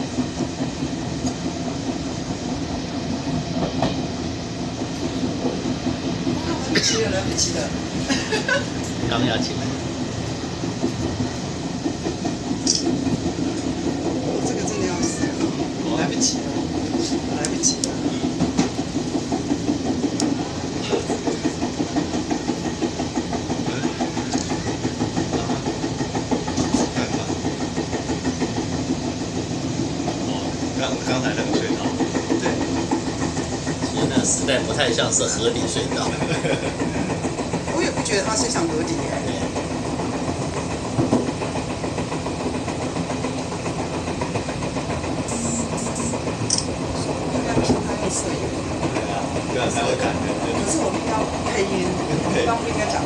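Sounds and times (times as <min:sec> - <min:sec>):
train rumbling inside carriage: 0:00.0 - 0:53.0.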